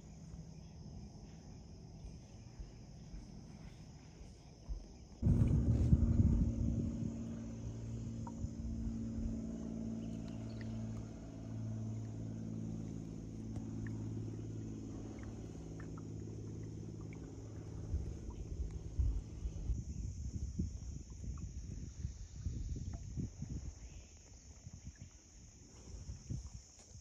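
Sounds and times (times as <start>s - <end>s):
low motor hum: 0.0s - 26.8s.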